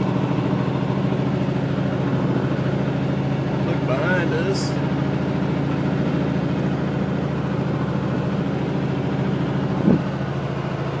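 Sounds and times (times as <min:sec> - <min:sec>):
road noise: 0:00.0 - 0:11.0
truck diesel engine running: 0:00.0 - 0:11.0.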